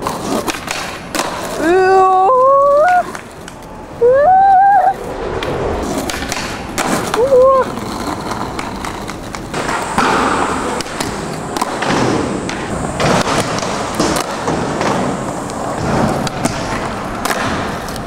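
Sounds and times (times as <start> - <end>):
skateboard clacking on ground: 0.0 - 3.7, 5.0 - 18.0
skateboard wheels rolling on concrete: 0.0 - 18.0.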